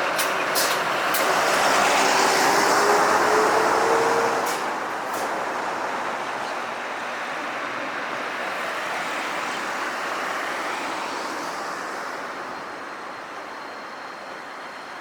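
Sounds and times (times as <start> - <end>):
passing vehicles rushing: 0.0 - 13.5.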